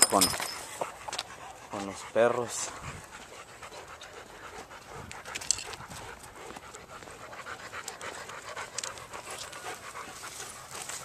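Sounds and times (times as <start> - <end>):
dog panting: 0.4 - 11.0.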